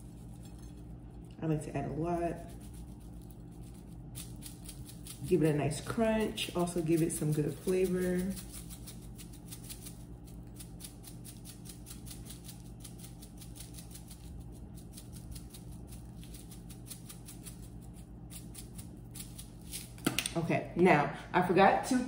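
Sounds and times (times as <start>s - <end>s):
seasoning jar shaking rattle: 2.2s - 20.0s.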